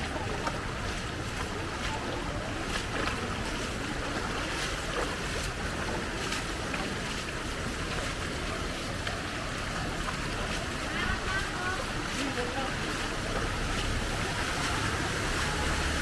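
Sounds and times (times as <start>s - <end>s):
rushing floodwater: 0.0s - 16.0s
small water splashes: 0.0s - 16.0s.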